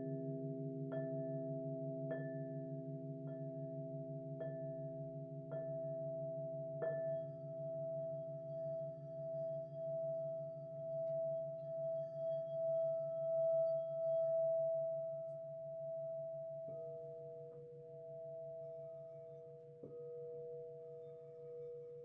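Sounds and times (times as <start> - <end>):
crystal singing bowls ringing: 0.0 - 22.0.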